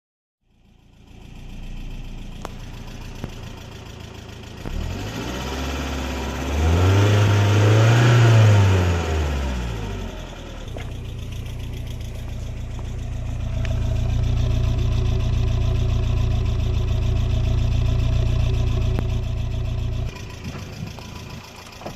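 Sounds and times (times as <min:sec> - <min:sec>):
car engine idling and revving: 0:00.4 - 0:21.9.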